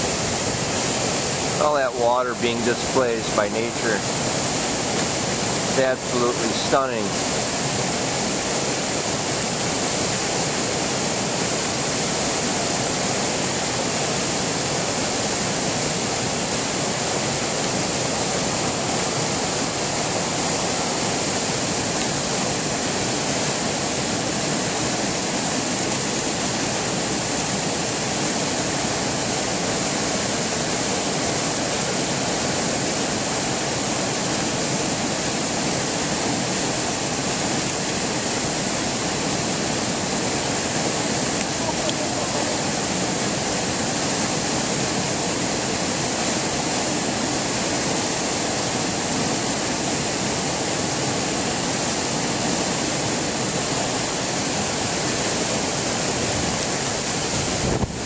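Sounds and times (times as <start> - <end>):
river rushing over weir: 0.0 - 58.0.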